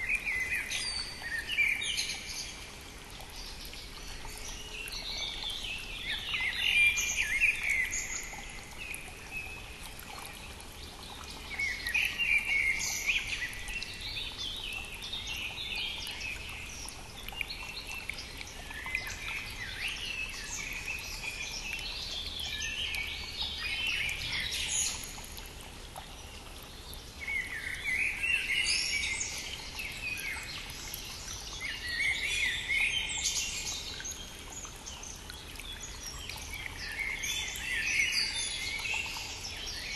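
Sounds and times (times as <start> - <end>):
flowing stream: 0.0 - 39.9
songbirds chirping and trilling: 0.0 - 39.9.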